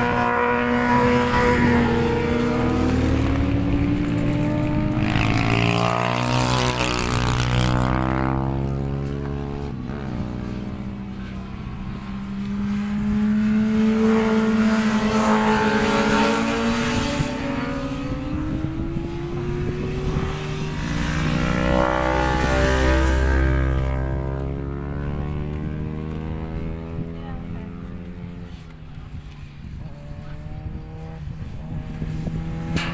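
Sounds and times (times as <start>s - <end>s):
motorcycles passing at speed: 0.0s - 32.9s.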